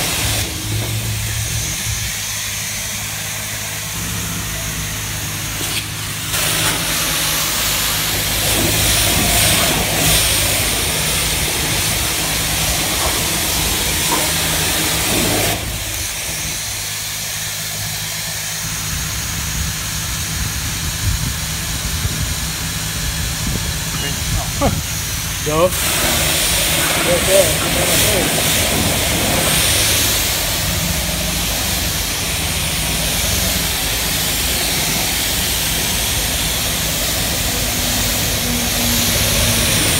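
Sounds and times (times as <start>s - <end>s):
pressure washer spray hissing: 0.0s - 39.9s.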